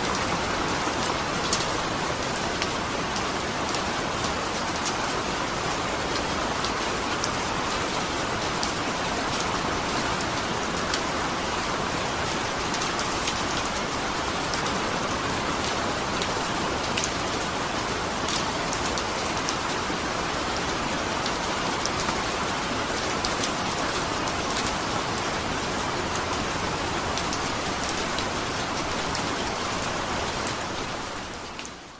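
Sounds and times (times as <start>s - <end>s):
steady rainfall: 0.0s - 31.9s.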